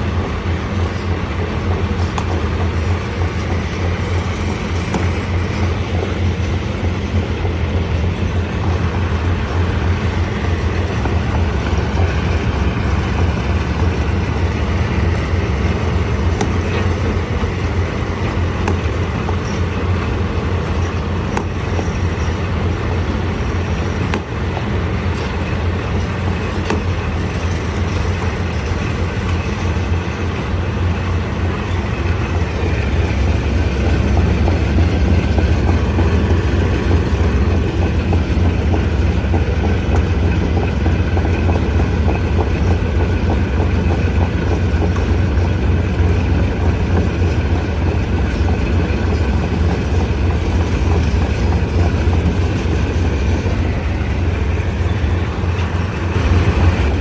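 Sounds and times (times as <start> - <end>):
stone crusher rumbling: 2.2 - 57.0.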